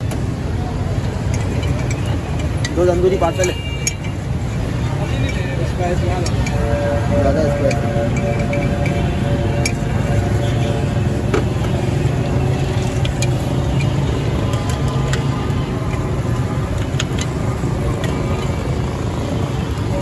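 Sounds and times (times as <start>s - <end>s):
busy street rumble: 0.0s - 20.0s.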